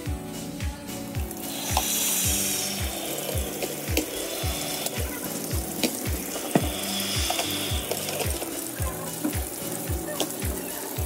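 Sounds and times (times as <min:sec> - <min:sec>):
music with kick-drum beat: 0:00.0 - 0:11.0.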